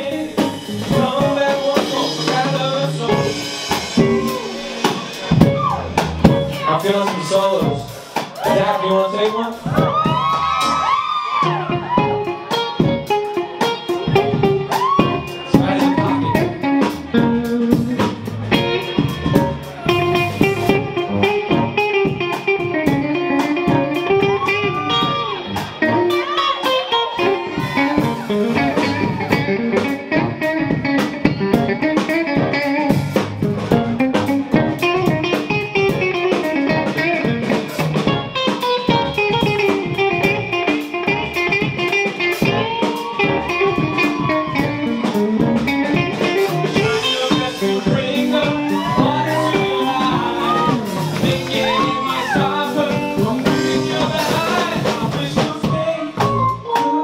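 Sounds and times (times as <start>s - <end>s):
live band playing: 0.0s - 57.0s
electric guitar solo: 3.1s - 54.5s.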